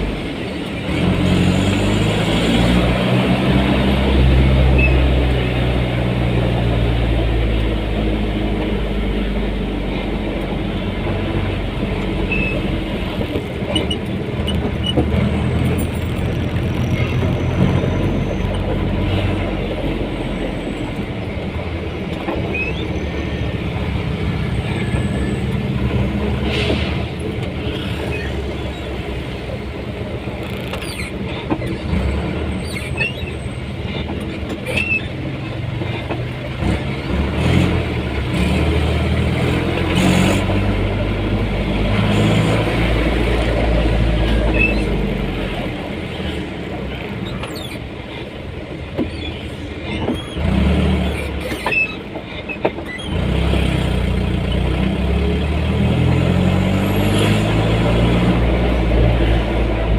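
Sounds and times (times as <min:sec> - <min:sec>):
road and traffic noise: 0:00.0 - 0:59.9
vehicle engine hum: 0:00.0 - 0:59.9.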